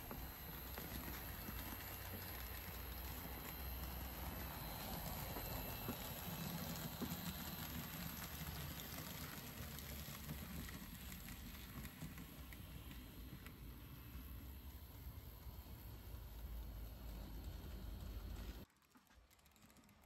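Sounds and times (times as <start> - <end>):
model train running: 0.0 - 18.7
wheels clicking over rail joints: 0.0 - 20.0.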